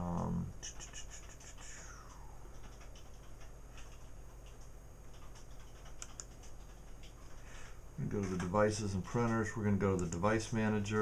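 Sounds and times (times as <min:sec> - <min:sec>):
low steady hum: 0:00.0 - 0:11.0
computer mouse clicks: 0:00.1 - 0:07.4, 0:08.2 - 0:10.6.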